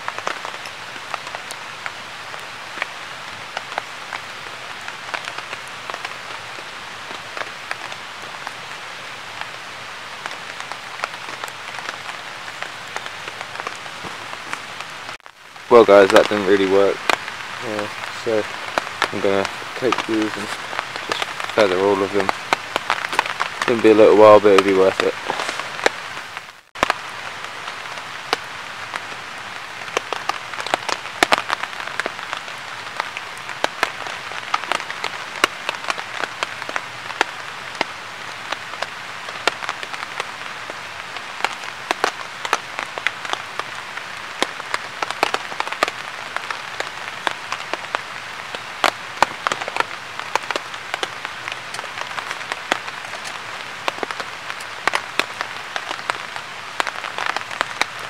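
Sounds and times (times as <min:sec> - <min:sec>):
rain dripping from trees: 0:00.0 - 0:58.0.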